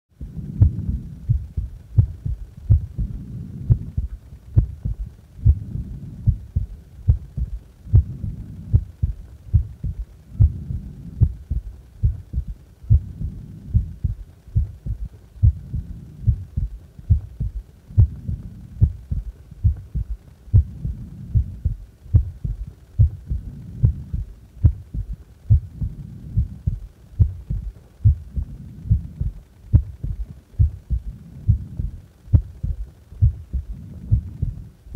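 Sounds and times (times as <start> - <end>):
heartbeat thumps: 0.2 - 34.7.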